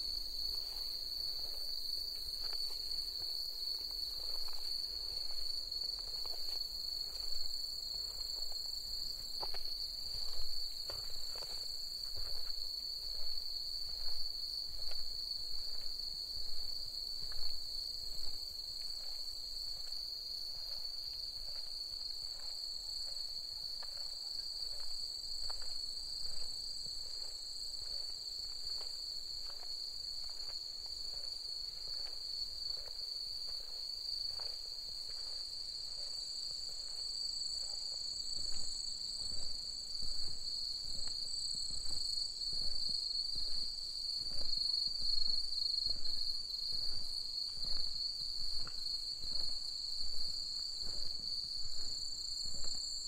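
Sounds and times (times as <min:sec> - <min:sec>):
night insects chirring: 0:00.0 - 0:53.0
walking footsteps: 0:00.0 - 0:53.0.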